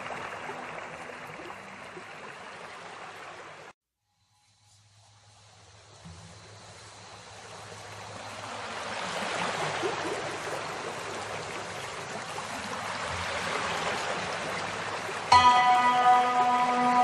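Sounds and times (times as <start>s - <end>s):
running water: 0.0s - 3.8s, 5.5s - 17.0s.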